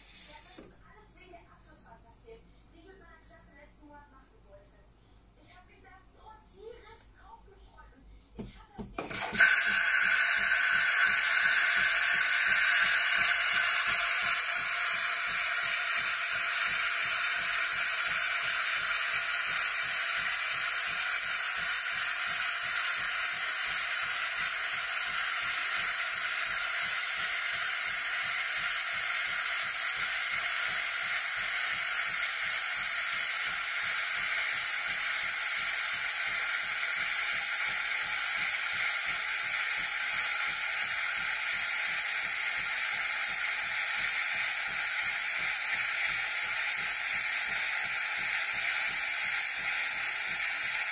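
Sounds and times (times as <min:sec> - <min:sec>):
steam hissing through milk: 0:00.0 - 0:00.7, 0:09.1 - 0:50.9.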